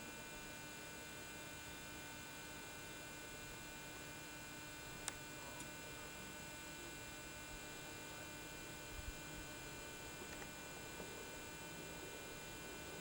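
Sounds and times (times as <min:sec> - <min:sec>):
electrical hum with high whine: 0:00.0 - 0:13.0.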